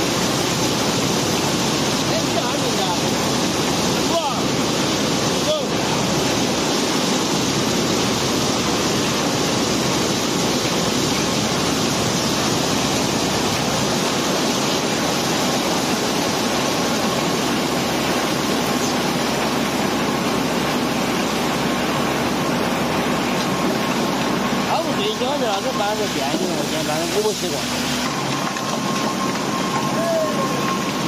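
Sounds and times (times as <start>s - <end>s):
gravel pouring down a chute: 0.0s - 31.0s.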